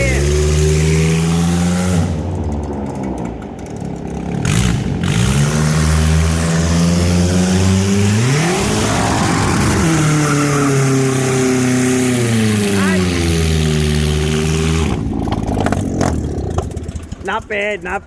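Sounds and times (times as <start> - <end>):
car engine revving hard: 0.0 - 2.4, 4.3 - 16.8.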